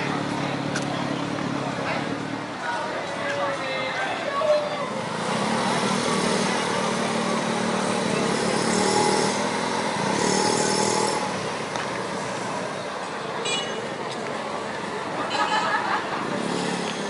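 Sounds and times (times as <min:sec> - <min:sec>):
motorcycles passing: 0:00.0 - 0:17.0
traffic noise: 0:00.0 - 0:17.0.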